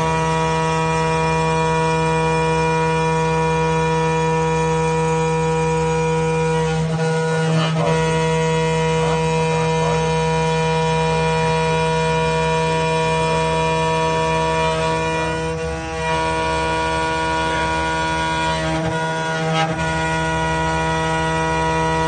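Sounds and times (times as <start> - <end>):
cutter engraving steel: 0.0 - 22.0
router spindle whining: 0.0 - 22.0.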